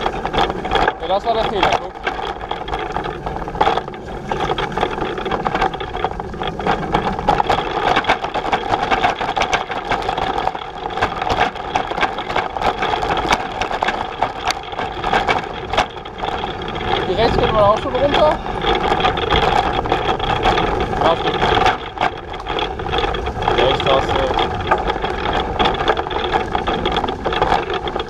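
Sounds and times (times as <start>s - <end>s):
bike frame rattling: 0.0s - 28.0s
steady mid-pitched hum: 0.0s - 28.0s.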